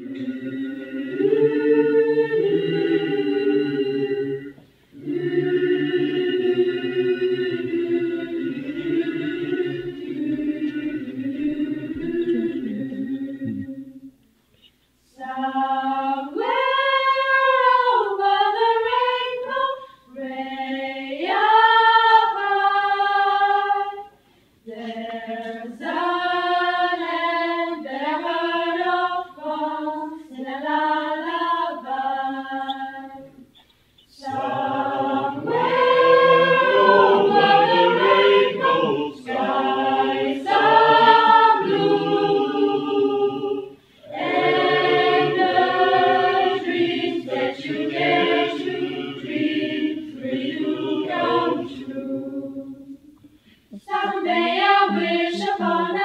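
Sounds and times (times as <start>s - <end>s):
choir singing: 0.0s - 14.2s, 15.1s - 33.4s, 34.1s - 56.0s.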